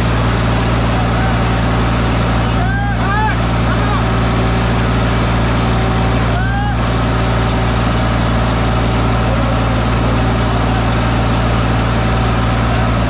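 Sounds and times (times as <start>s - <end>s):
diesel tractor engines droning: 0.0s - 13.0s.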